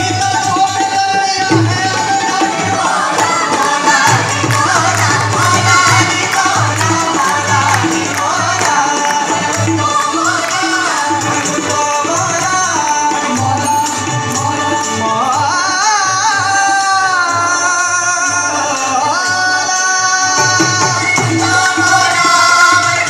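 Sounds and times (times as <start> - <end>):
group of singers: 0.0 - 23.0
harmonium: 0.0 - 23.0
tabla drum beat: 0.0 - 23.0.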